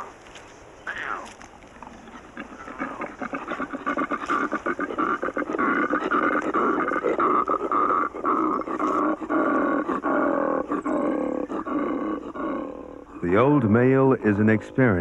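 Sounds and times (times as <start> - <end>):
koala bellowing: 0.8 - 15.0.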